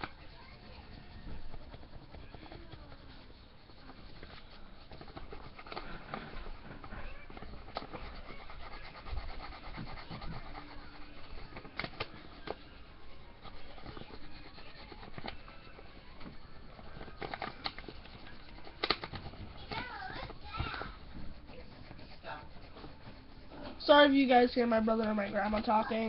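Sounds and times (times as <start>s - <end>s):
crayon rubbing on paper: 0.0s - 26.0s.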